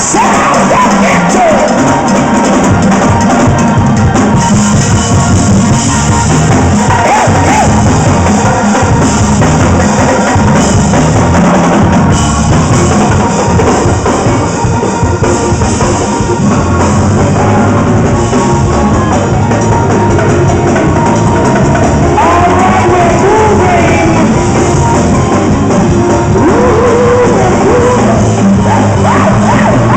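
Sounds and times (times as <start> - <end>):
drum kit bass drum and snare: 0.0 - 29.9
gospel band playing: 0.0 - 29.9.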